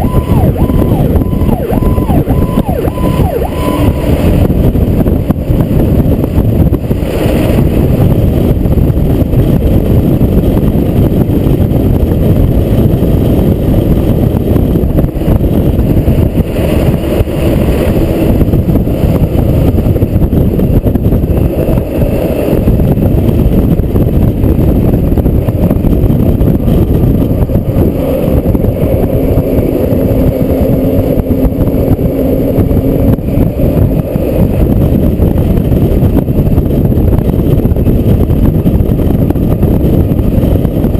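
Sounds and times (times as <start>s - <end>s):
fire truck engine rumble: 0.0s - 40.9s
road noise: 0.0s - 40.9s.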